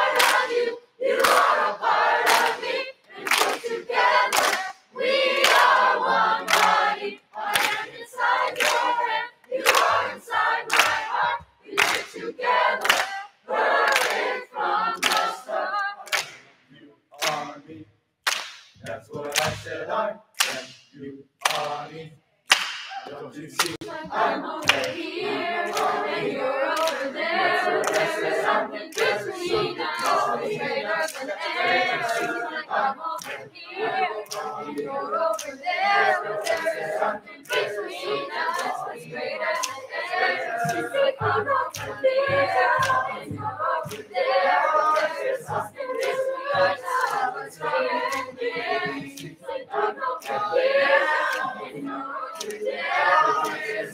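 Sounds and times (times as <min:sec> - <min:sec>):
choir singing in parts: 0:00.0 - 0:17.8, 0:18.8 - 0:22.1, 0:22.9 - 0:53.9
rhythmic hand claps: 0:00.0 - 0:53.9.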